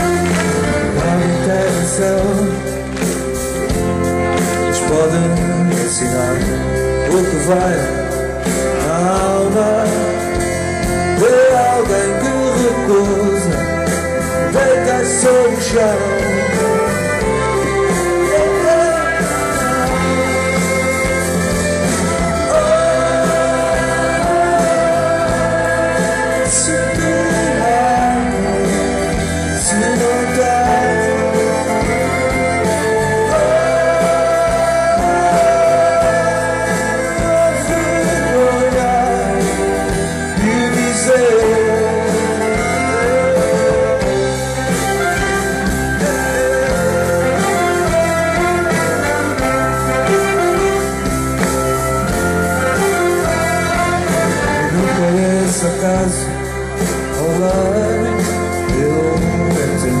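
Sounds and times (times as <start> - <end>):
acoustic guitar: 0.0 - 60.0
keyboard: 0.0 - 60.0
man singing: 0.0 - 60.0
orchestral strings: 0.0 - 60.0.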